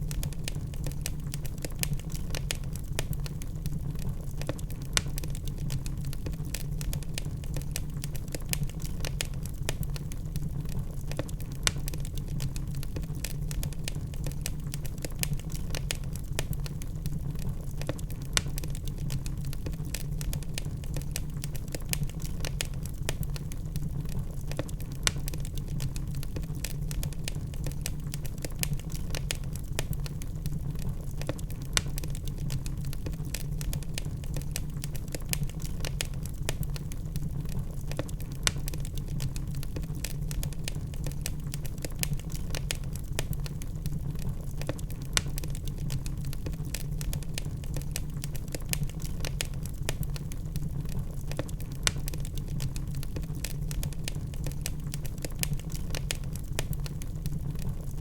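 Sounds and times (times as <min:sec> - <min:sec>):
low rumble of fire: 0:00.0 - 0:58.0
wood fire crackling: 0:00.0 - 0:58.0
loud pops of burning logs: 0:00.1 - 0:58.0.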